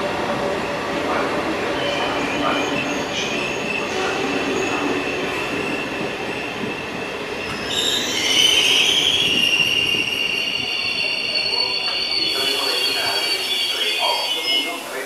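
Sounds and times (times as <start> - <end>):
train wheels and brakes squealing: 1.6 - 15.0.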